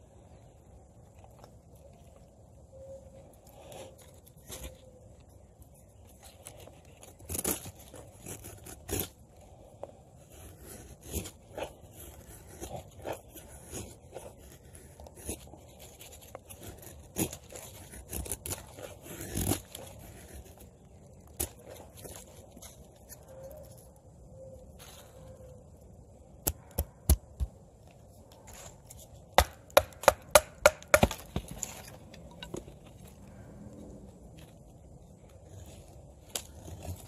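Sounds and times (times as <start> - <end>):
knife carving a dry stick: 2.7 - 24.0, 26.2 - 33.2, 35.1 - 37.0.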